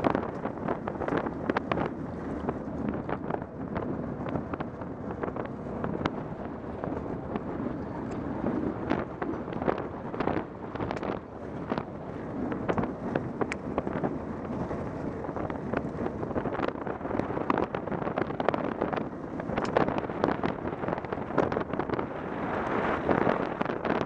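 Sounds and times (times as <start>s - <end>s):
wheels rolling noise: 0.0s - 24.0s
wind buffeting microphone: 0.0s - 24.0s.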